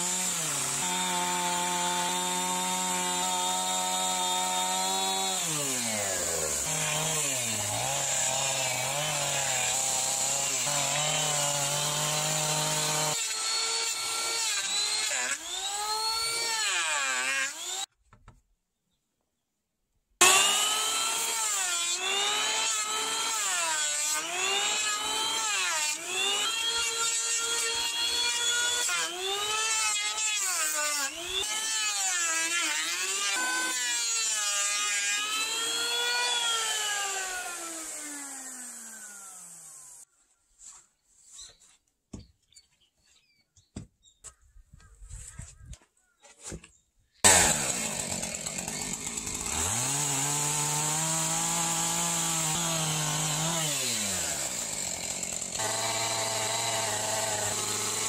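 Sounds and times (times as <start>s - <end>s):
chainsaw cutting log: 0.0s - 17.9s, 20.2s - 40.1s, 47.2s - 58.0s
electric planer shaving wood: 0.0s - 17.9s, 20.2s - 40.0s, 47.2s - 58.0s.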